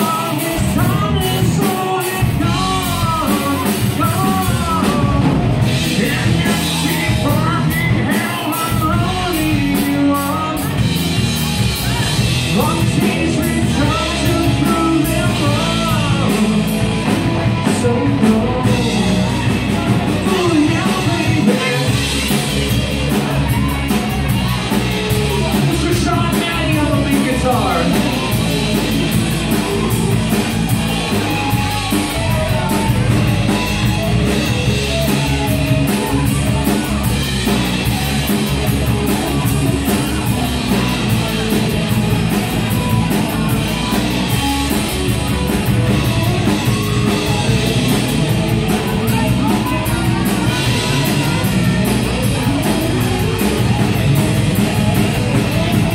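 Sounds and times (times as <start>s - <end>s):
drum kit: 0.0s - 55.9s
electric guitar: 0.0s - 55.9s
person singing: 0.0s - 55.9s.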